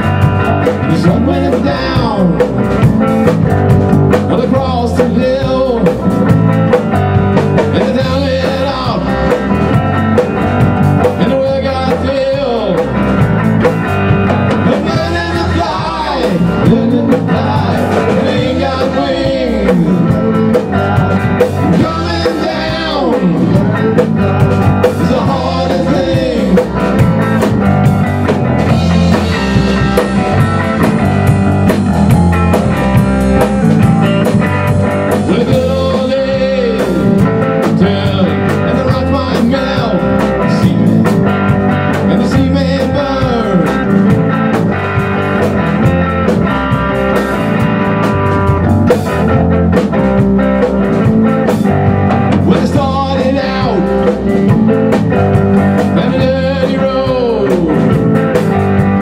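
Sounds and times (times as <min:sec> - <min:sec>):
drum beat: 0:00.0 - 0:59.0
electric guitar sliding lead line: 0:00.0 - 0:59.0
live rock band playing: 0:00.0 - 0:59.0.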